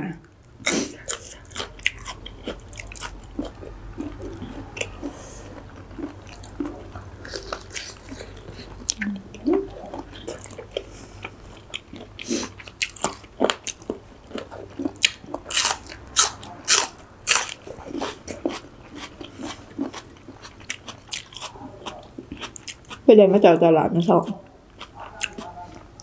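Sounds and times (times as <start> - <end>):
biting and chewing: 0.6 - 23.1, 24.2 - 26.0.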